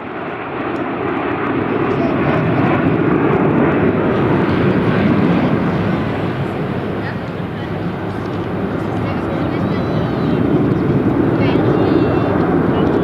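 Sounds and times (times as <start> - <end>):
jet engines rushing: 1.6 - 13.0.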